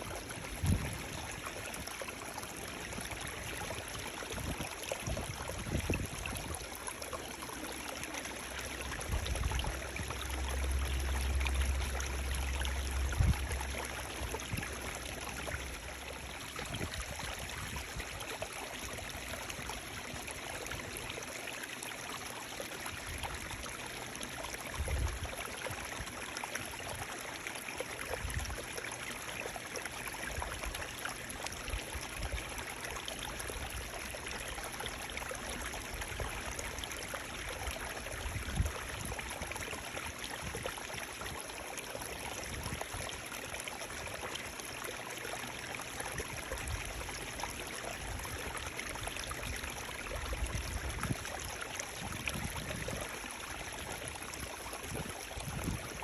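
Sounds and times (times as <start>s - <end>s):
running water flowing: 0.0s - 56.0s.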